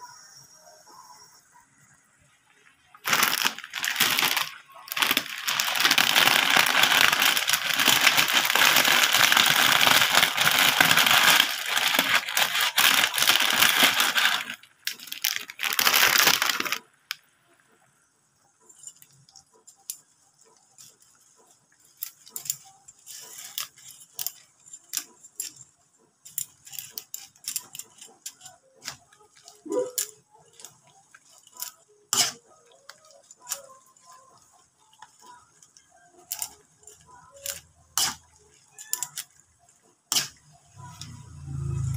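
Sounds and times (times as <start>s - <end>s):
broth boiling in a wok: 0.1s - 17.0s, 19.0s - 41.9s
metal ladle stirring: 3.0s - 16.7s, 19.8s - 41.2s.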